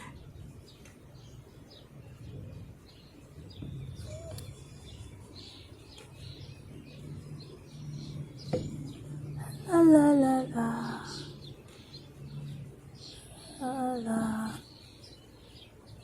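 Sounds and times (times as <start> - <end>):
birds chirping and calling: 0.0 - 16.0
low steady hum: 0.0 - 16.0.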